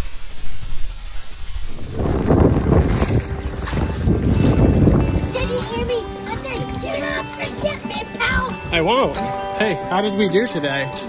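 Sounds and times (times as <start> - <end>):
wind buffeting microphone: 0.0 - 9.4
water spray splashing: 0.0 - 11.0
boat hull slapping waves: 0.4 - 9.5.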